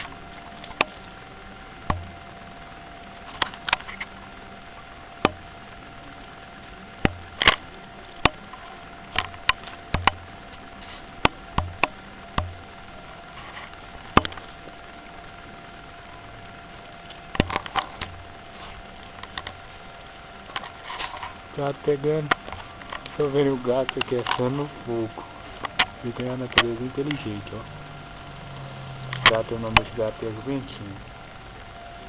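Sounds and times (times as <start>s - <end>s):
faint steady tone: 0.0s - 32.0s
wood fire crackling: 0.0s - 32.0s.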